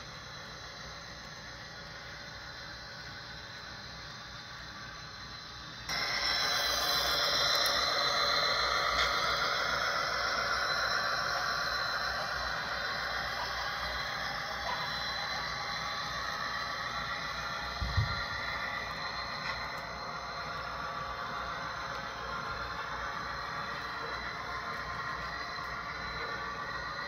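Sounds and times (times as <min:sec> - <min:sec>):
model train whirring on track: 0:00.0 - 0:27.0.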